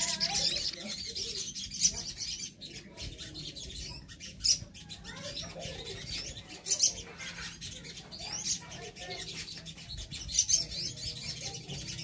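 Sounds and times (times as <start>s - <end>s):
birds chirping and twittering: 0.0s - 12.0s
sharp bird calls: 0.0s - 12.0s.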